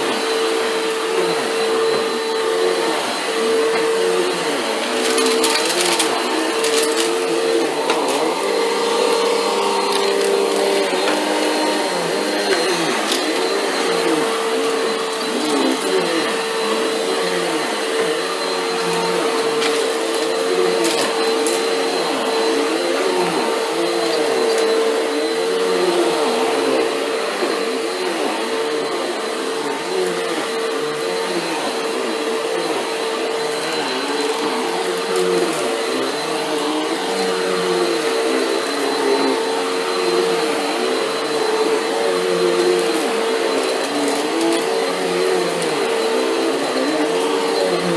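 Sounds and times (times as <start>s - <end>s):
vacuum cleaner running over carpet: 0.0s - 47.9s.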